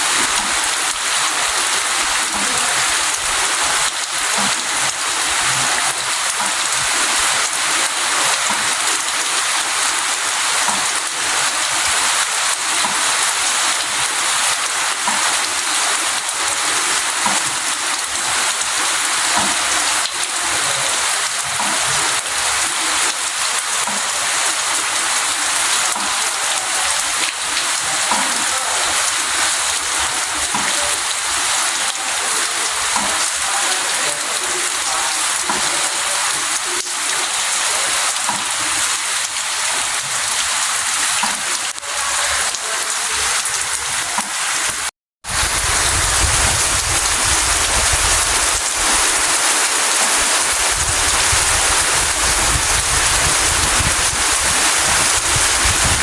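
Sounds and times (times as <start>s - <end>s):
water drips: 0.0s - 44.9s
steady rain hissing: 0.0s - 56.0s.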